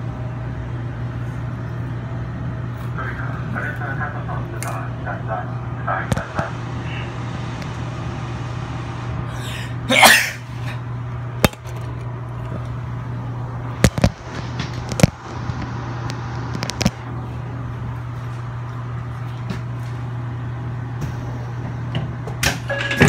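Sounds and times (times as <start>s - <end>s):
train carriage hum: 0.0s - 23.0s.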